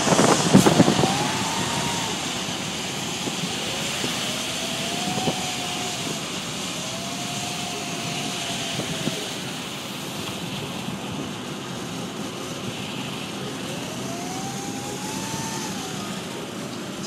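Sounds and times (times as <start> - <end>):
faint whine rising in pitch: 0.0 - 10.5, 12.7 - 17.0
wind and road noise: 0.0 - 17.0.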